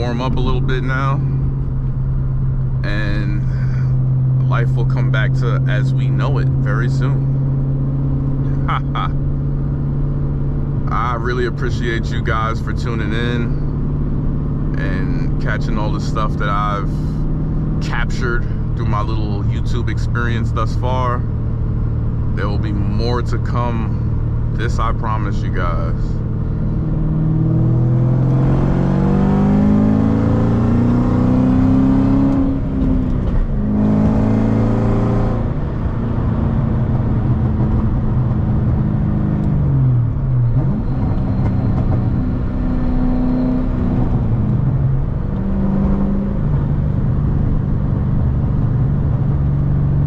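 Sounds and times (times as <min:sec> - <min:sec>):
car engine accelerating through gears: 0:00.0 - 0:50.0.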